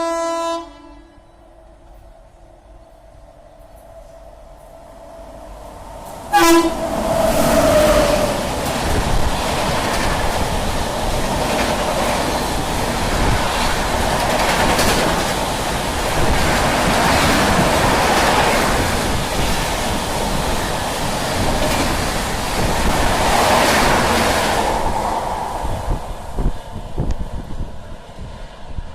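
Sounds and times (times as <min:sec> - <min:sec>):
train wheels rumbling on rail: 0:01.2 - 0:28.9.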